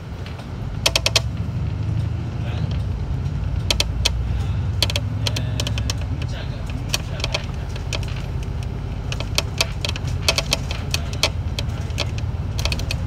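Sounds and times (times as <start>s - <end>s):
bus engine and road rumble: 0.0s - 13.0s
sharp clicks and rattles: 0.0s - 13.0s.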